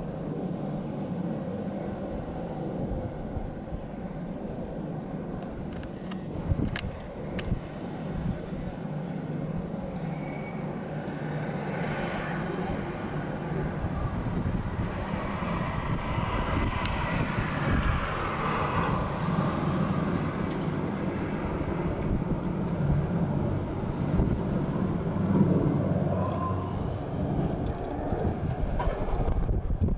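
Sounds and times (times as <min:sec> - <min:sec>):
helicopter rotors thrumming: 0:00.0 - 0:29.9.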